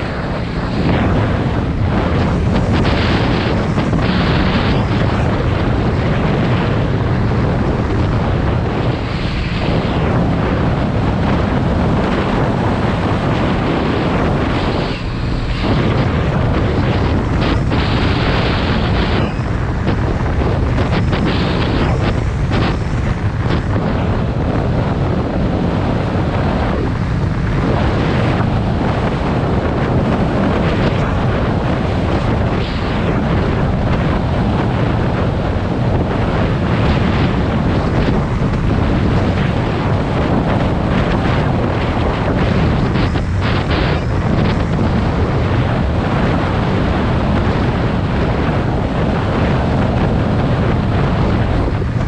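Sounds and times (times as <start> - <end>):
motorcycle engine running: 0.0 - 46.0
wind noise on microphone: 0.0 - 52.0.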